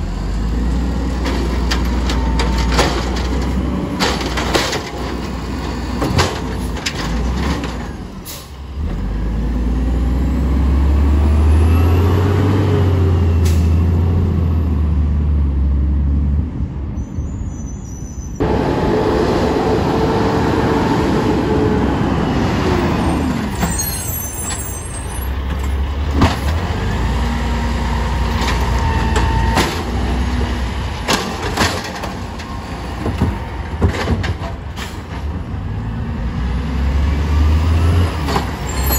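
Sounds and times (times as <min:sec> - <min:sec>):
truck engine revving: 0:00.0 - 0:16.4, 0:18.4 - 0:23.8, 0:25.3 - 0:33.9, 0:34.6 - 0:38.9.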